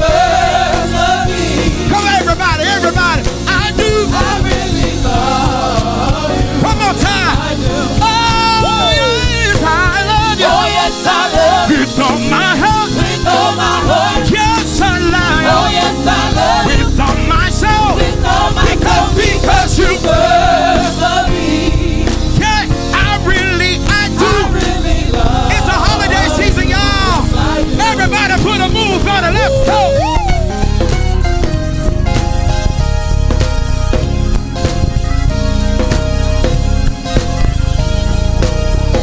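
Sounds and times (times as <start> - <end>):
gospel singers: 0.0 - 39.0
live church band: 0.0 - 39.0.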